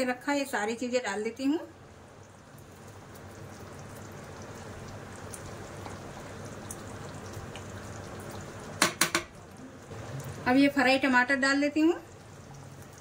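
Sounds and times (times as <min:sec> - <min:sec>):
curry simmering hiss: 0:00.0 - 0:13.0.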